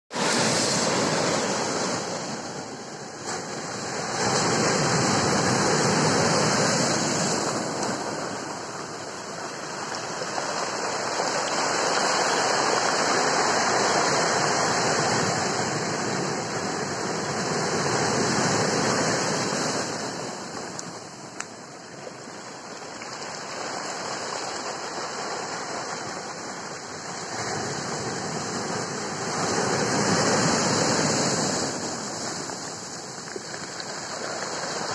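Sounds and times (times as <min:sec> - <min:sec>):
surf breaking on stones: 0:00.1 - 0:34.9.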